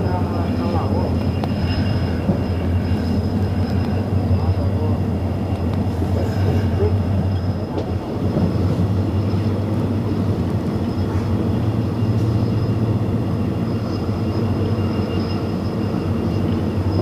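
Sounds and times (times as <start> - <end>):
faint high whine: 0.0 - 17.0
train wheels rumbling on track: 0.0 - 17.0.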